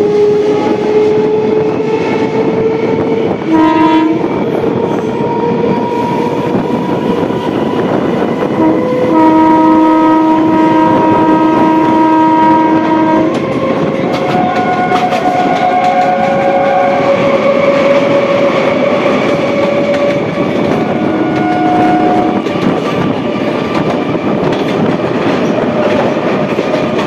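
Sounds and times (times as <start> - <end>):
train horn: 0.0 - 22.5
electric train whine rising: 0.0 - 26.6
train wheels and wind rushing: 0.0 - 27.0.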